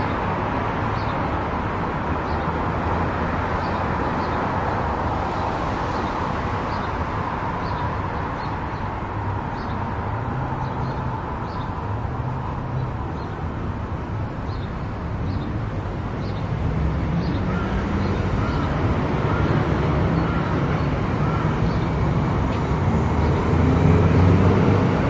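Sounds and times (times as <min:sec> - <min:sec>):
tyre and road noise: 0:00.0 - 0:25.0.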